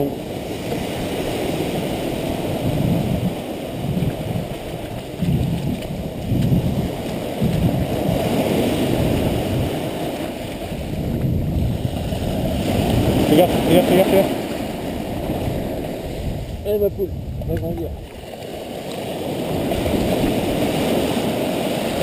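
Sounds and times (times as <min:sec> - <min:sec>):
sea surf breaking on sand: 0:00.0 - 0:22.0.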